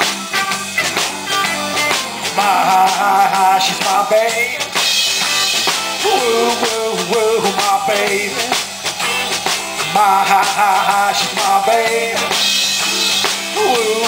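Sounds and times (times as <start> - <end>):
drum kit beat: 0.0 - 14.0
electric bass: 0.0 - 14.0
electric guitar lead: 0.0 - 14.0.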